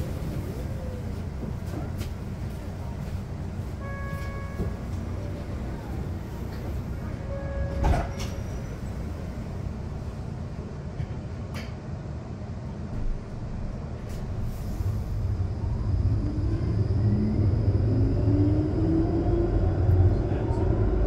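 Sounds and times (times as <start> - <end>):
tram low rumble: 0.0 - 21.0.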